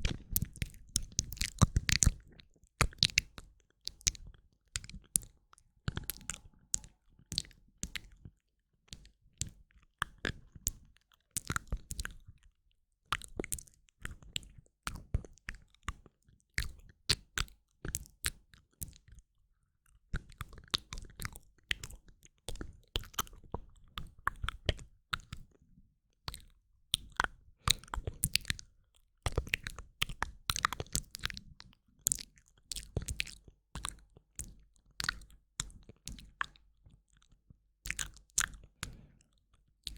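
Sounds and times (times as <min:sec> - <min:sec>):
wet lip and tongue clicks: 0:00.0 - 0:12.4, 0:13.1 - 0:19.2, 0:20.2 - 0:25.5, 0:26.3 - 0:39.9.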